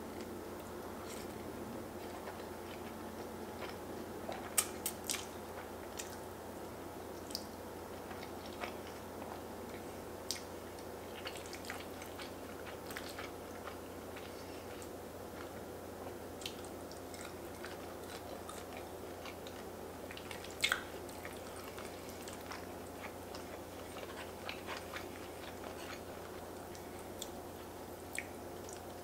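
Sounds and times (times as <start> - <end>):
person chewing food: 1.0 - 6.2, 8.1 - 15.6, 16.4 - 29.0.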